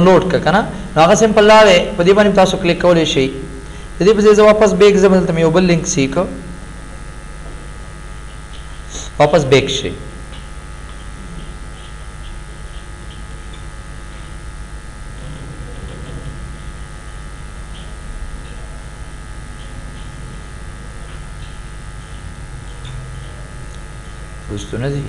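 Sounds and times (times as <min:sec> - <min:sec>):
electrical hum and buzz: 0:00.0 - 0:25.0.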